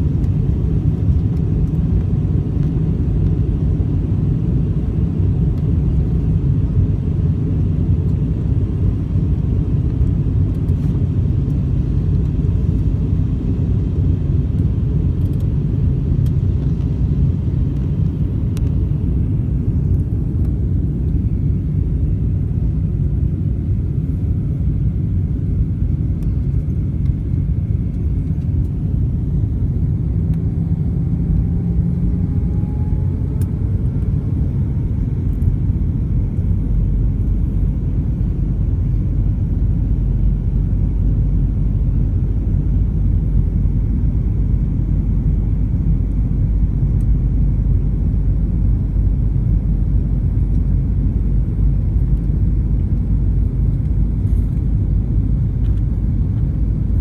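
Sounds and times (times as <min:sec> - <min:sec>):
airliner engine and airflow rumble: 0:00.0 - 0:57.0
faint rising whine: 0:00.0 - 0:57.0.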